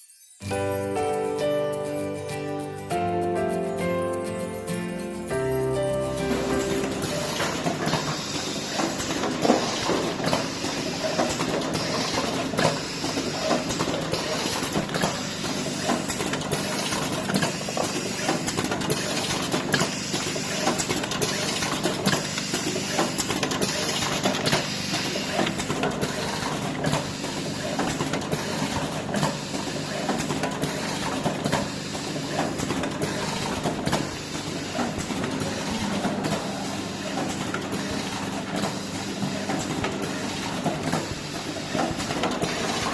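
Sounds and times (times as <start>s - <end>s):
machine hum: 6.0s - 42.9s
machine hiss: 6.3s - 42.9s
packaging machine clicking: 6.3s - 42.9s.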